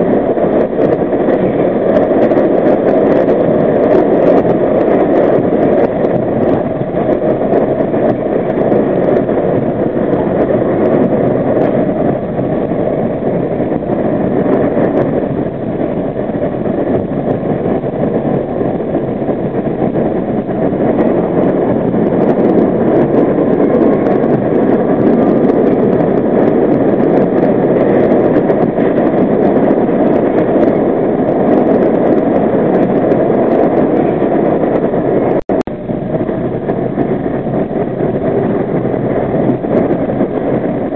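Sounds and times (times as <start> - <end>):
subway train wheels rumbling: 0.0 - 40.9.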